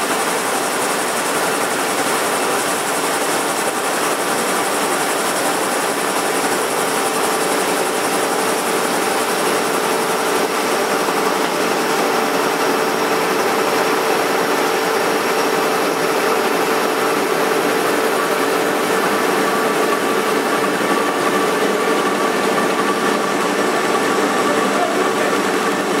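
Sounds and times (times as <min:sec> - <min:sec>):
machine whirring and humming: 0:00.0 - 0:26.0.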